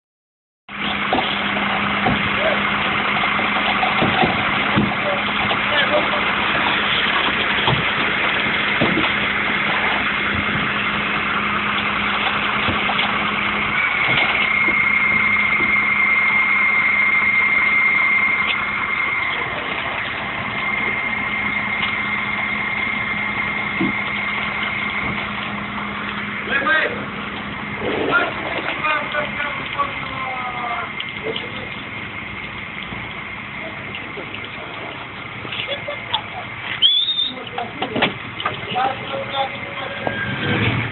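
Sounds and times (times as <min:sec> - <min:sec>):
garbage truck engine humming: 0:00.7 - 0:40.9
high steady whine: 0:00.7 - 0:40.9.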